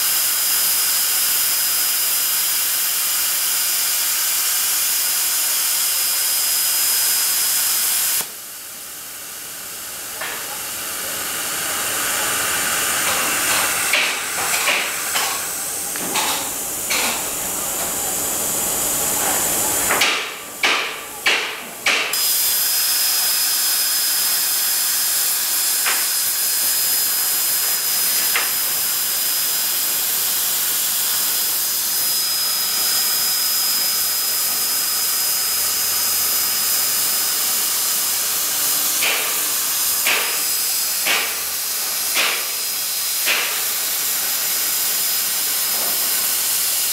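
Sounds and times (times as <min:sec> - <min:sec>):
plasma cutting torch hissing: 0:00.0 - 0:46.9.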